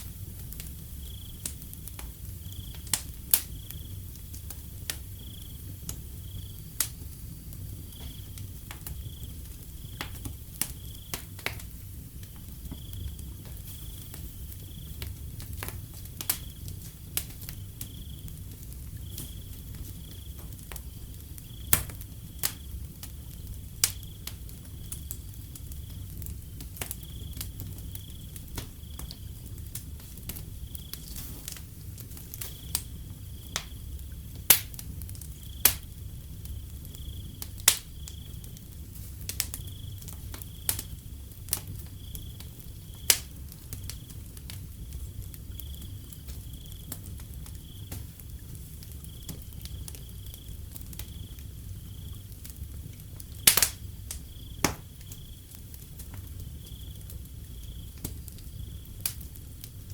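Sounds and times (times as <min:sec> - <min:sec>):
cricket chirping: 0:00.0 - 0:59.9
wood fire crackling: 0:00.0 - 0:59.9.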